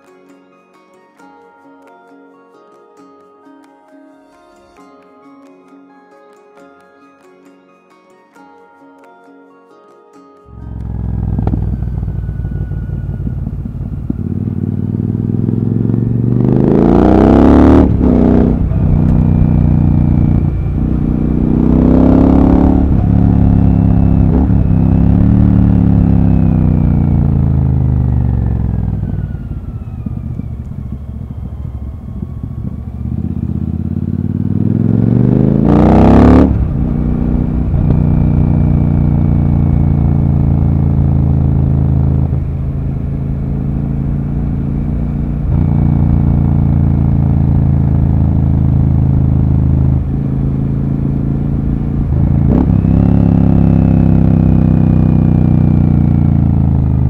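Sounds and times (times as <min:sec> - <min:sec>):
motorcycle engine upshifting: 0:10.6 - 0:57.0.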